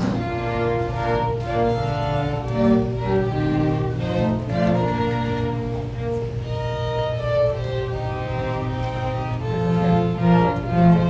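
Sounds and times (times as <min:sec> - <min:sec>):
violin and cello playing slowly: 0:00.0 - 0:11.0.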